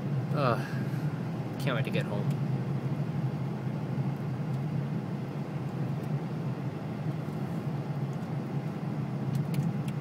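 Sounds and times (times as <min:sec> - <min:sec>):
car engine and tyre drone: 0:00.0 - 0:10.0.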